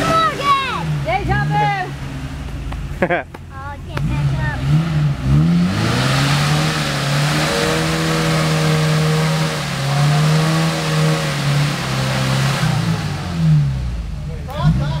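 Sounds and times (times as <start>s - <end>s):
vehicle engine at high revs: 0.0s - 15.0s.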